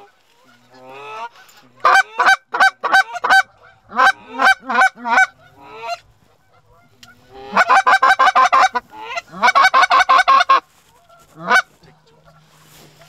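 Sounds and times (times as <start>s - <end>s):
goose call clucks and honks: 0.0s - 13.0s.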